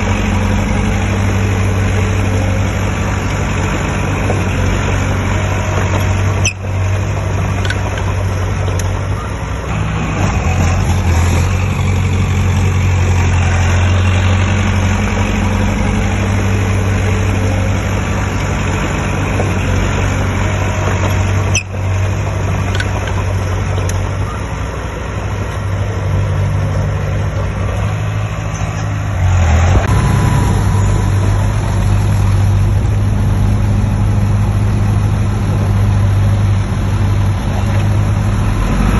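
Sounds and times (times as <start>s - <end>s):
heavy diesel engine humming: 0.0s - 38.9s.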